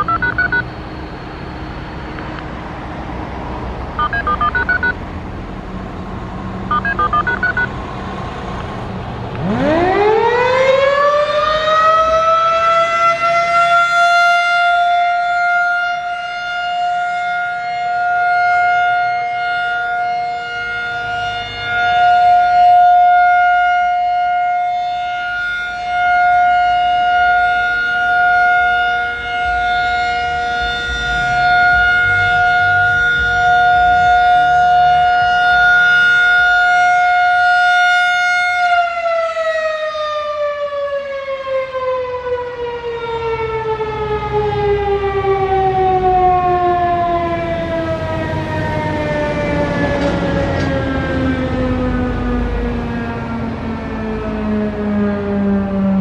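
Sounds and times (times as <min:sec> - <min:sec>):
siren steady tone: 0:00.0 - 0:02.6, 0:04.0 - 0:05.0, 0:06.7 - 0:07.8, 0:09.4 - 0:56.0.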